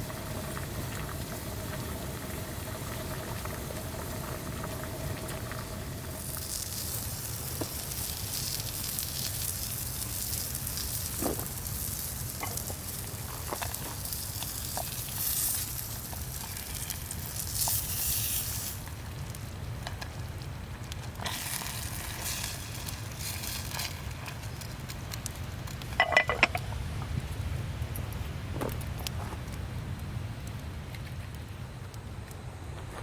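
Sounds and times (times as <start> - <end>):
food sizzling over wood fire: 0.0 - 33.0.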